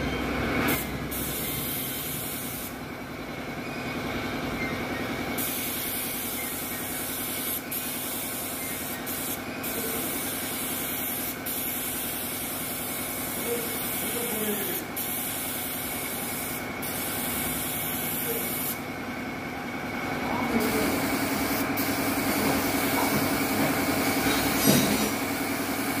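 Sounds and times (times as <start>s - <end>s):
spray gun hissing: 0.7s - 2.8s, 5.4s - 18.8s, 20.5s - 26.0s.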